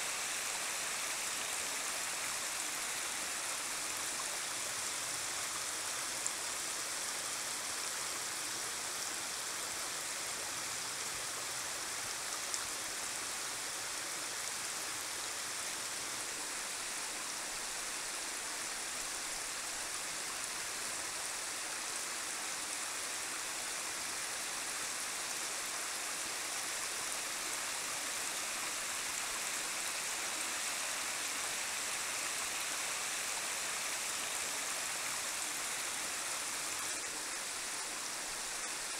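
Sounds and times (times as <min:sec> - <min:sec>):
creek water rushing over rock: 0:00.0 - 0:38.9.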